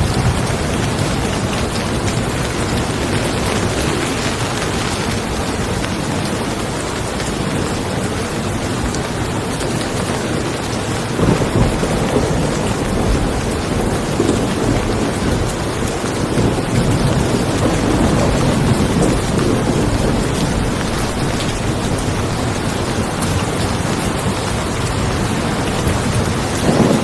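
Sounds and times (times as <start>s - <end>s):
thunder rolling: 0.0s - 9.4s, 10.8s - 27.0s
rain falling on a car: 0.0s - 27.0s.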